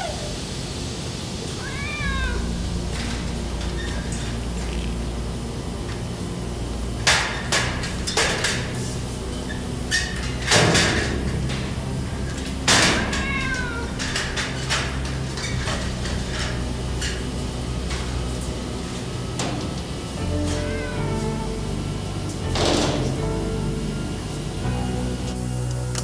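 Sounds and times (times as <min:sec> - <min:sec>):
steady low hum: 0:00.0 - 0:26.0
metal knocks and clanks: 0:02.0 - 0:23.8.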